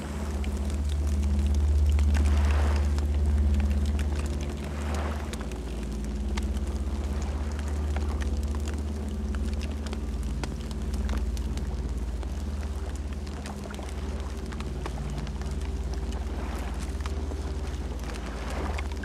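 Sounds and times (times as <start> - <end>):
campfire flames rumbling: 0.0 - 19.0
wood crackling and popping: 0.0 - 19.0.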